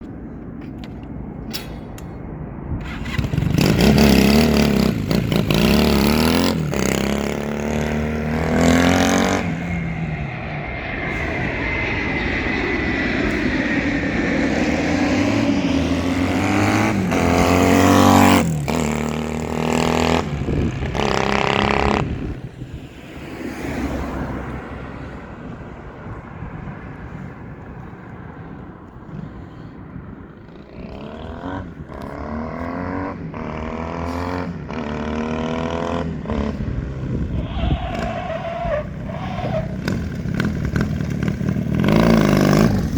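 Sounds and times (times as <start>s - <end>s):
motorcycle engine revving: 2.8s - 23.0s, 26.1s - 42.9s.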